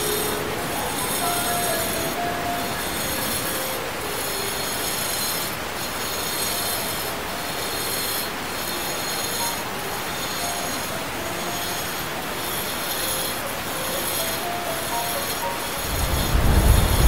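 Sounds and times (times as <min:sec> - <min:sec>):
angle grinder grinding stone: 0:00.0 - 0:17.0.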